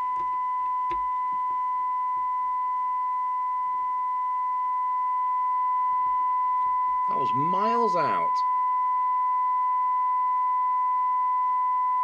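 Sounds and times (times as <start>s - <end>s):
steady pure test tone: 0.0s - 12.0s.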